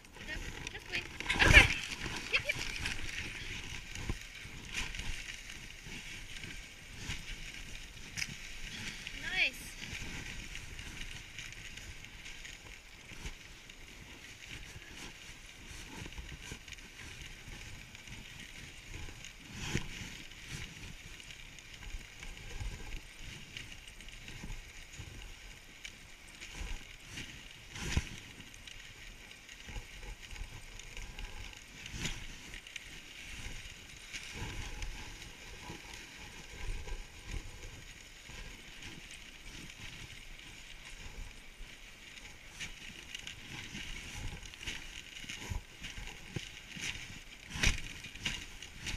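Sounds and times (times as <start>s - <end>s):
sled rattling and knocking: 0.0s - 48.9s
sled runners hissing over snow: 0.0s - 48.9s.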